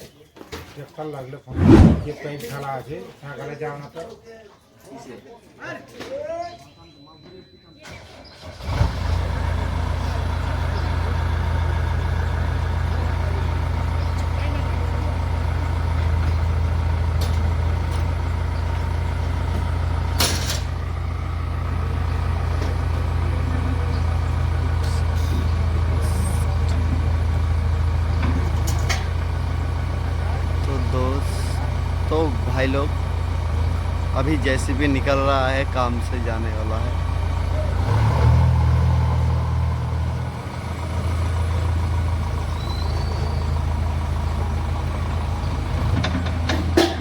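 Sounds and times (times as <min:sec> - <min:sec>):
diesel engine starting and running: 0:07.8 - 0:47.0.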